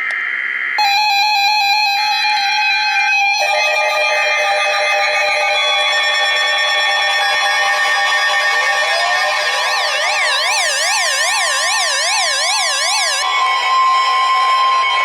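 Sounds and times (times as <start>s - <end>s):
data-burst tones: 0.8s - 13.2s
dense chord of electronic tones: 0.8s - 13.3s
steady low electronic tone: 0.8s - 15.0s.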